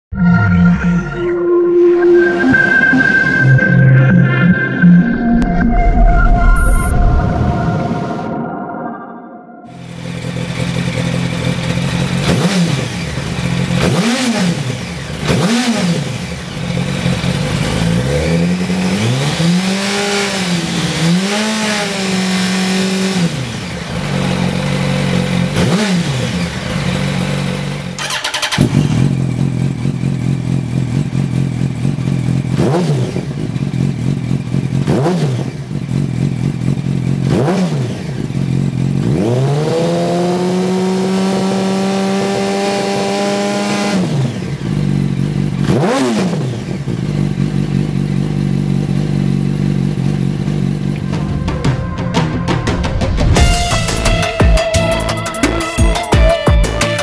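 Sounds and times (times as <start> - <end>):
motorcycle engine idling and revving: 9.7 - 57.0.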